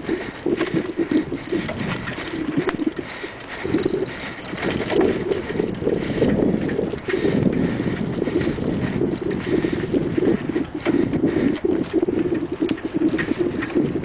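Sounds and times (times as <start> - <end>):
bike rattling and knocking: 0.0 - 14.0
wind buffeting microphone: 0.0 - 14.0.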